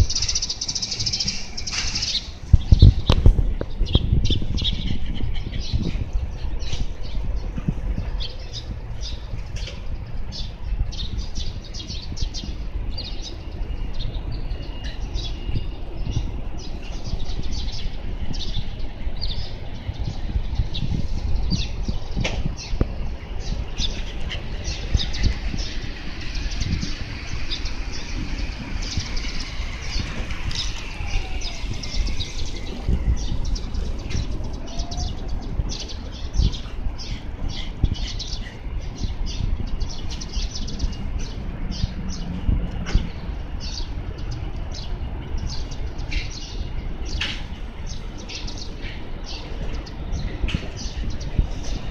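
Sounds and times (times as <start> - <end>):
small birds chirping: 0.0 - 51.9
traffic rumble: 0.0 - 51.9.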